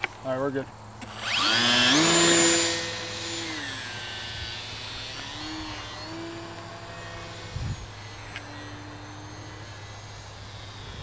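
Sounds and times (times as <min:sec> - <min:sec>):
model plane motor whining: 0:01.0 - 0:11.0.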